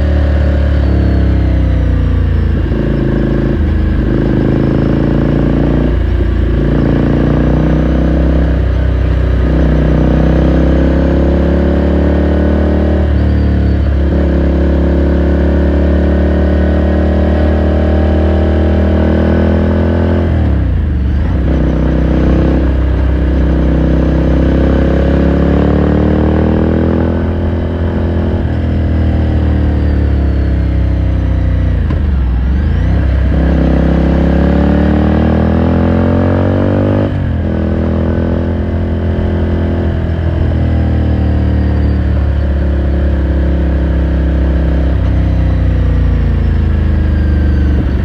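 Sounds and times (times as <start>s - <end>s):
motorcycle engine with gear changes: 0.0s - 48.0s.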